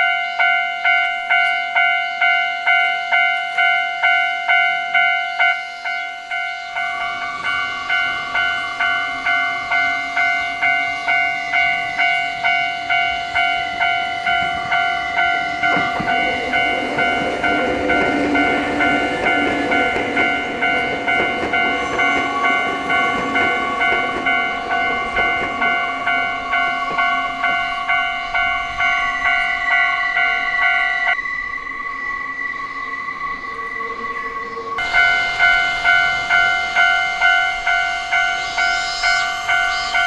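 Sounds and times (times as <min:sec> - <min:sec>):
level crossing bell ringing: 0:00.0 - 0:31.2, 0:34.8 - 0:40.0
train running noise: 0:00.0 - 0:40.0.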